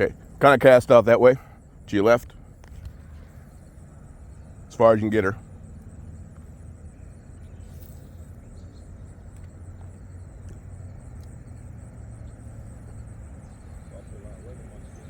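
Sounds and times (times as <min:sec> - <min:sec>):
pulsing insect trill: 0:00.0 - 0:15.0
steady low rumble: 0:00.0 - 0:15.0.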